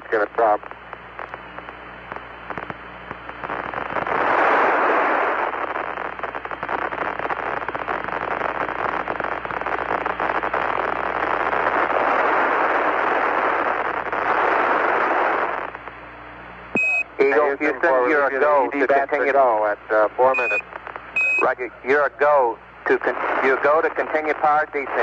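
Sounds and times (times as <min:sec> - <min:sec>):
crackling radio static: 0:00.0 - 0:25.0.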